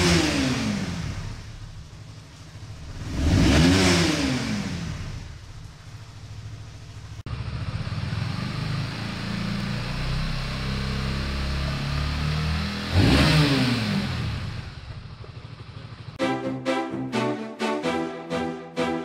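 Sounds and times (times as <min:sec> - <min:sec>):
motorcycle engine revving: 0:00.0 - 0:16.2.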